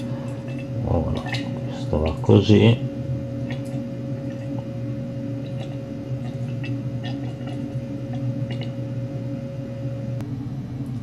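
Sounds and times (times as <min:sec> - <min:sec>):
low hum with high tone: 0:00.0 - 0:11.0.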